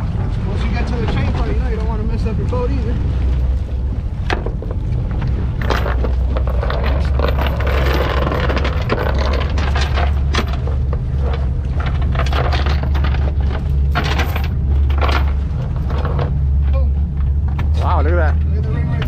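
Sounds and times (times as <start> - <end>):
steady low rumble: 0.0 - 19.0
metal chain clattering on boat: 3.3 - 19.0.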